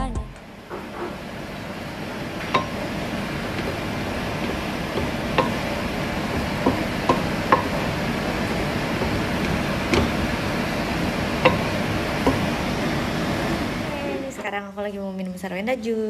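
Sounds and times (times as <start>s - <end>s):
frying hiss: 0.5s - 14.4s
spatula scraping wok: 0.7s - 13.7s.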